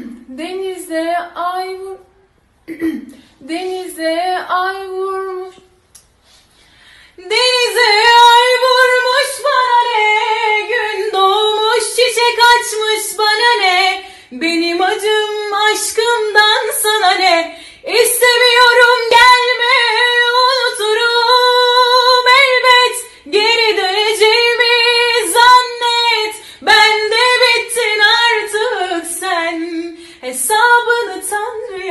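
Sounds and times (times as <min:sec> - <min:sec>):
woman singing unaccompanied: 0:00.0 - 0:02.1, 0:03.4 - 0:05.7, 0:07.2 - 0:31.9.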